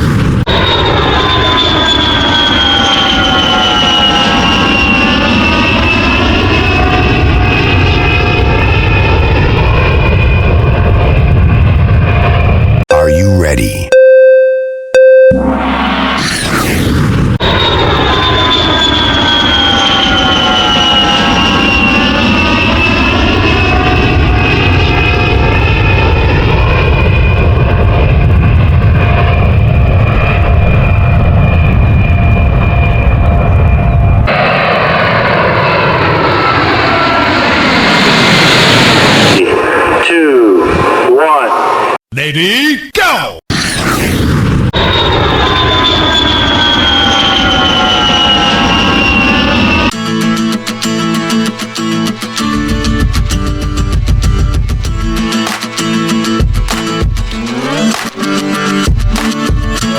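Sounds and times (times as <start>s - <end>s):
jet engine whine: 0.0s - 12.9s, 15.0s - 42.0s, 43.5s - 59.9s.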